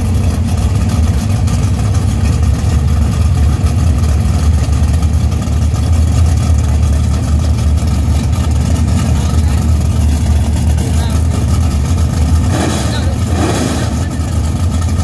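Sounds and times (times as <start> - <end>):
race car engines idling: 0.0 - 15.0.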